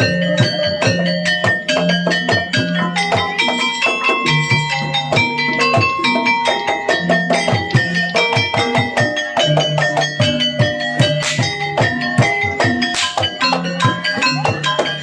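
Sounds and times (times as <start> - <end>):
gamelan metal keys ringing: 0.0 - 15.0.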